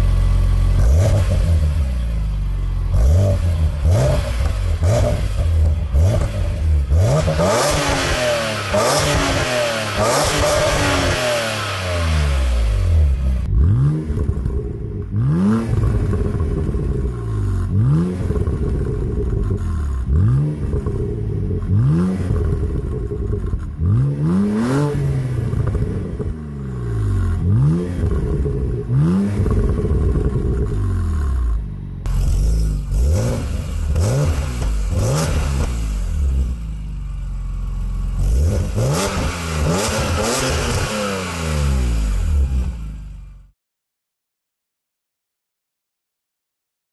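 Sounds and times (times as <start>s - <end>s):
car engine revving: 0.0s - 43.5s.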